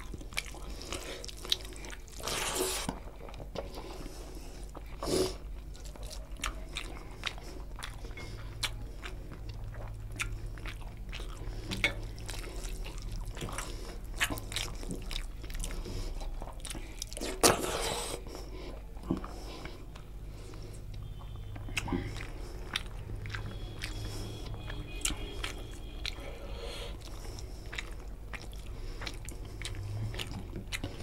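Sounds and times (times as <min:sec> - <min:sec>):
chewing: 0:00.0 - 0:31.0.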